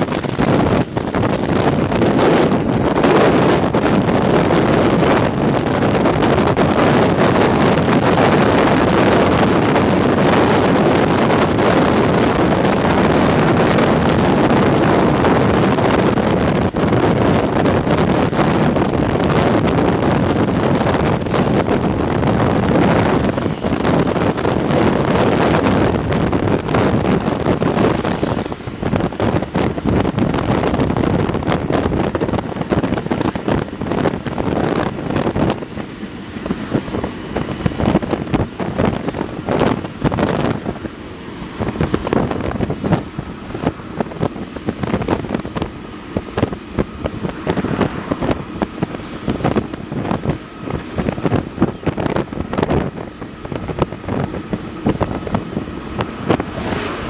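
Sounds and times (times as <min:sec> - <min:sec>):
locomotive running rumble: 0:00.0 - 0:57.0
wind buffeting microphone: 0:00.0 - 0:57.0.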